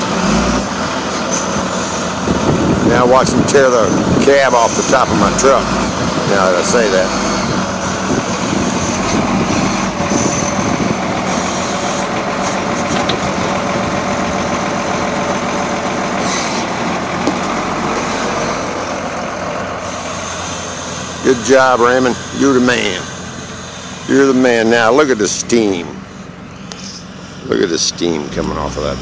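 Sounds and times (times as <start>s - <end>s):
wheel loader diesel engine: 0.0s - 29.0s.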